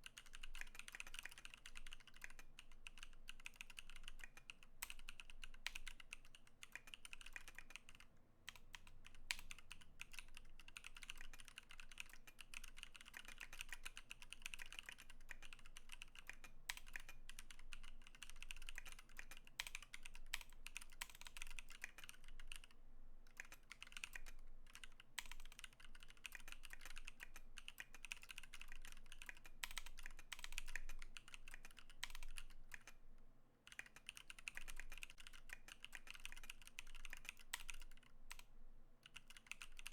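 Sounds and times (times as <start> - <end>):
mechanical keyboard typing: 0.0 - 33.0, 33.7 - 39.9.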